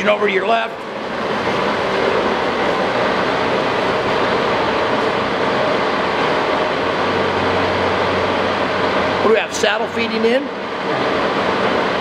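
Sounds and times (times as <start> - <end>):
machinery whirring: 0.0 - 12.0.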